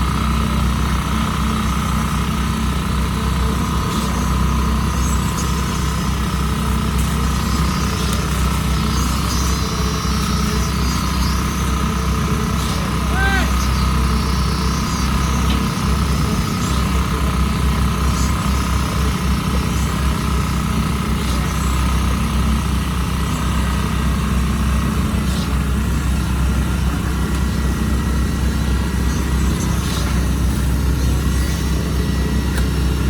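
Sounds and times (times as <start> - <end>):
high whine: 0.0 - 33.0
large engine running: 0.0 - 33.0.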